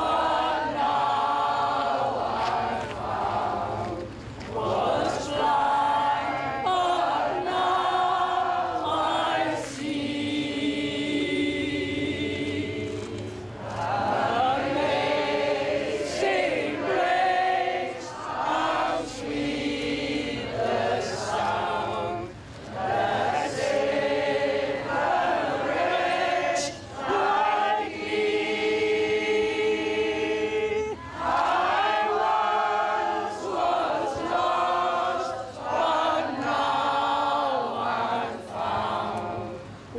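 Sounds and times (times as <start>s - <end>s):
choir singing: 0.0s - 39.8s.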